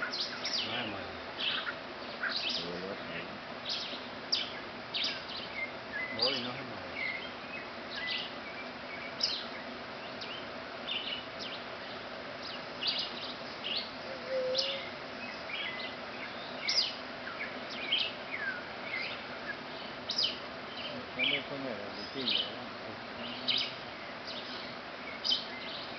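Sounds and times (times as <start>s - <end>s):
faint background hum: 0.0s - 25.9s
small birds chirping: 0.0s - 25.9s.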